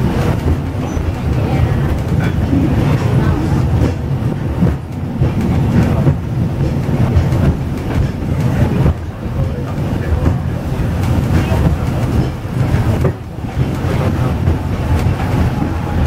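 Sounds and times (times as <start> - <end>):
tram car rumbling on rails: 0.0 - 16.0
wheels clicking on track: 0.0 - 16.0.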